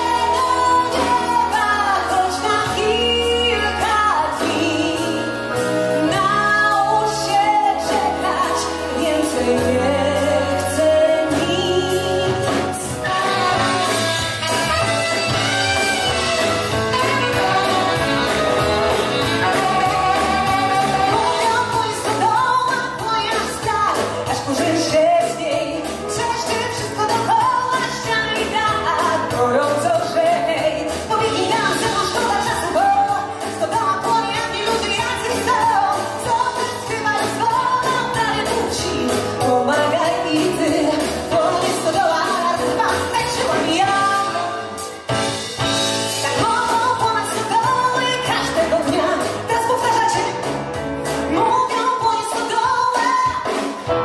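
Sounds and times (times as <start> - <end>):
woman singing: 0.0 - 45.0, 46.2 - 53.9
pop band with steady beat: 0.0 - 54.0.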